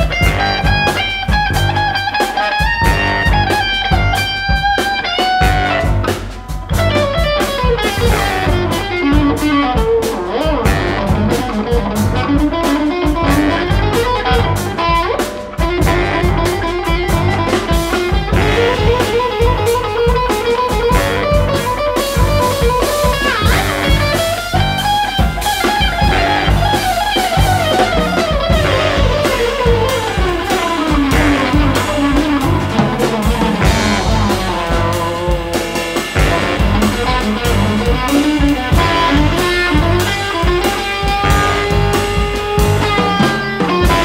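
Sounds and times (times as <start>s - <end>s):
bass: 0.0s - 44.0s
drum kit: 0.0s - 44.0s
electric guitar lead bending: 0.0s - 44.0s
jazz ensemble playing: 0.0s - 44.0s.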